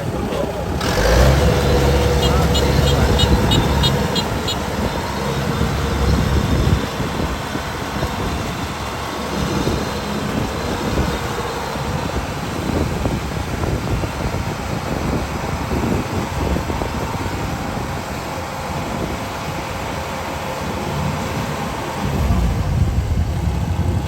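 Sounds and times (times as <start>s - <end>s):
combine harvester diesel engine: 0.0s - 24.0s.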